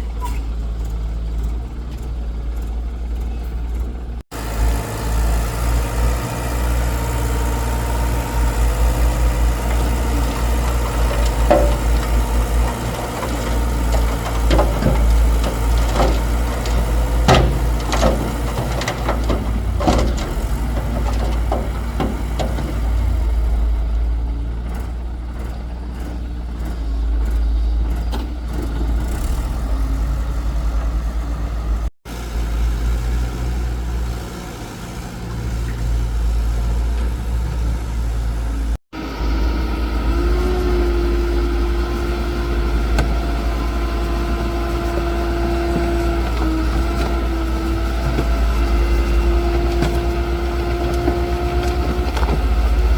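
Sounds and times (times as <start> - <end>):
excavator engine rumbling: 0.0 - 52.9.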